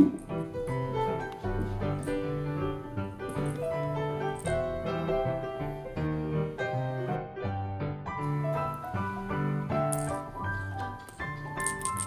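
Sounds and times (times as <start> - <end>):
silent-film style piano music: 0.0 - 12.0.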